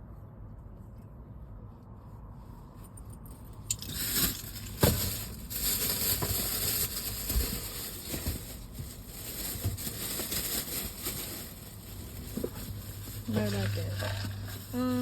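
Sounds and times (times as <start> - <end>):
rustling and crinkling handling: 0.6 - 15.0.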